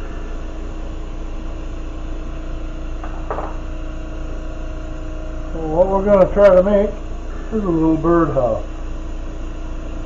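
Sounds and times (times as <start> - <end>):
ventilation hum: 0.0 - 10.0.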